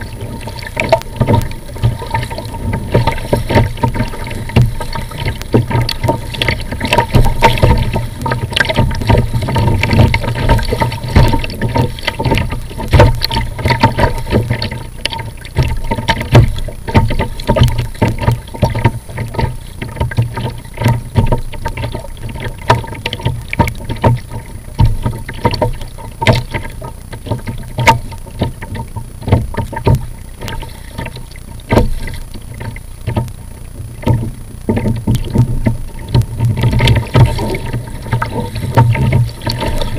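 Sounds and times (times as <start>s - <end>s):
water splashing against kayak hull: 0.0s - 39.9s
knocks on hull: 0.8s - 33.3s.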